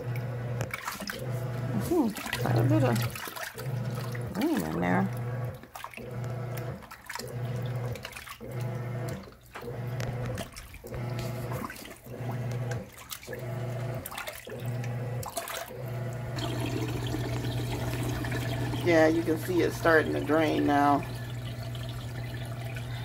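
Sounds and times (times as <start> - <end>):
washing machine motor humming: 0.0 - 23.0
water and clothes sloshing: 0.0 - 23.0.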